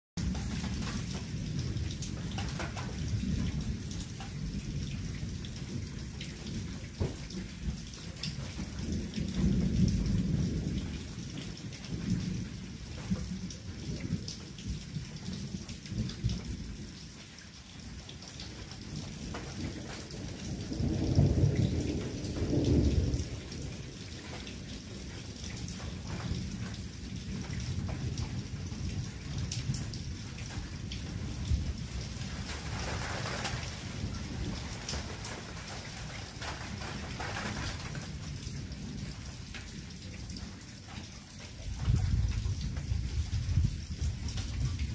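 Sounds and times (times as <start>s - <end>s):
low rolls of thunder: 0.2s - 17.2s, 18.0s - 44.9s
heavy rain: 0.2s - 44.9s
raindrops ticking: 0.2s - 44.9s.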